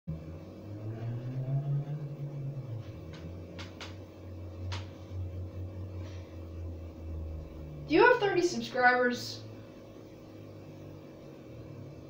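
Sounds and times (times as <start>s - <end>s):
low steady hum: 0.1s - 12.0s.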